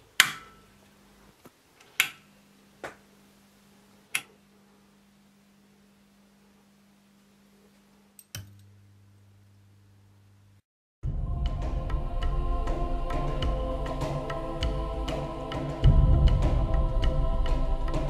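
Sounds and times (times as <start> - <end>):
amplifier hum: 2.2 - 18.0.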